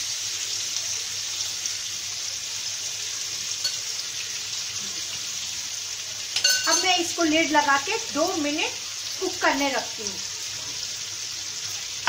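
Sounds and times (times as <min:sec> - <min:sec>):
chicken sizzling in a frying pan: 0:00.0 - 0:12.0.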